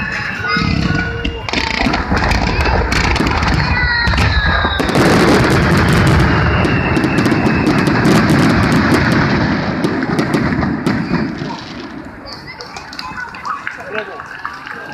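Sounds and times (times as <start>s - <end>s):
fireworks crackling: 0.0s - 14.9s
fireworks exploding: 0.0s - 14.9s.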